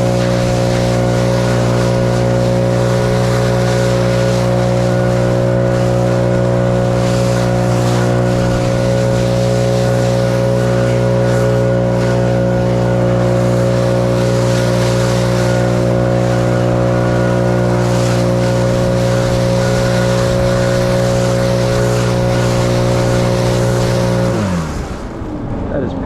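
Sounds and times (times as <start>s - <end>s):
leaf blower running: 0.0s - 25.7s.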